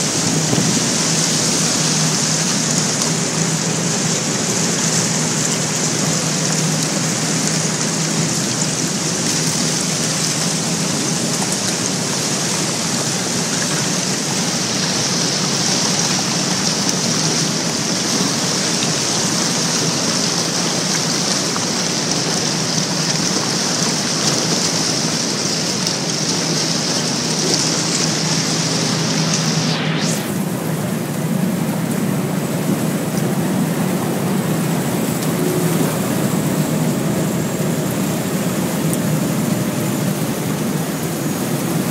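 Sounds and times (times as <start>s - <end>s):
low engine hum: 0.0s - 41.9s.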